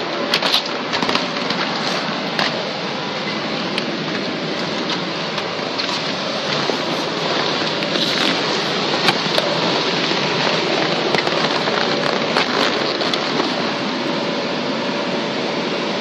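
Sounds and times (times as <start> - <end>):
electric blower rushing air: 0.0 - 16.0
faint motor hum: 0.0 - 16.0
vinyl rubbing against camera: 0.4 - 4.0, 4.6 - 14.4.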